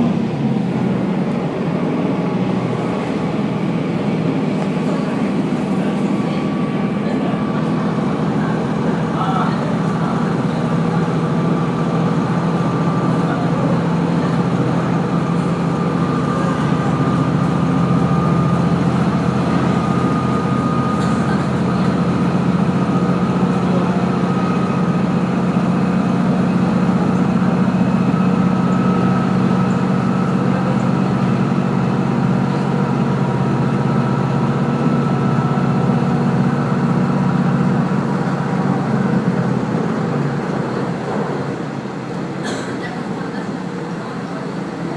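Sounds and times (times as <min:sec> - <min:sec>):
railcar engine drone: 0:00.0 - 0:44.9.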